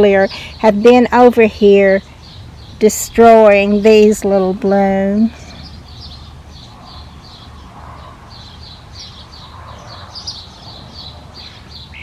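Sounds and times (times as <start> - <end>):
bird chirping: 0.0 - 12.0
low steady hum: 0.0 - 12.0.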